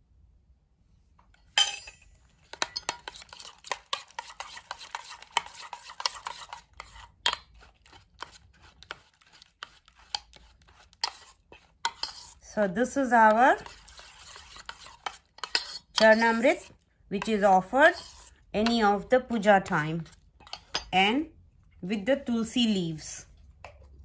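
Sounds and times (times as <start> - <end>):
metal spoon stirring in steel bowl: 1.6 - 21.0.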